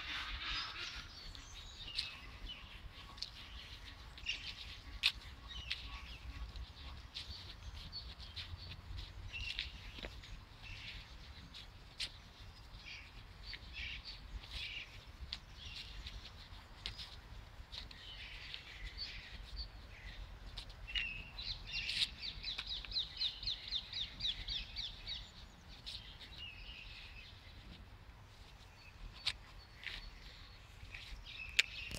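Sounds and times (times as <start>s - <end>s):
small birds calling and singing: 0.0s - 31.9s.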